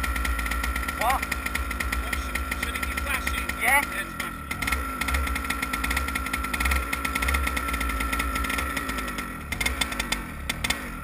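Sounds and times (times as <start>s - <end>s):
kart engine idling: 0.0s - 11.0s.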